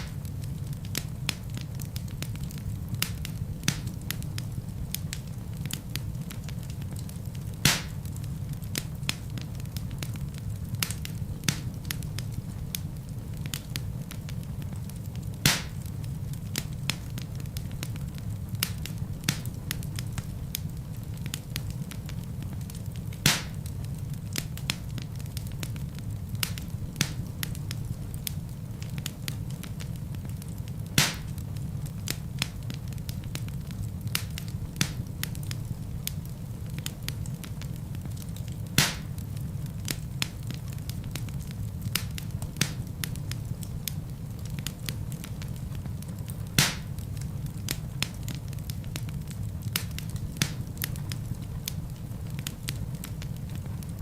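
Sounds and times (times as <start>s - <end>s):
fire crackling: 0.0s - 54.0s
low rumble of flame: 0.0s - 54.0s
wood fire pops: 0.0s - 54.0s.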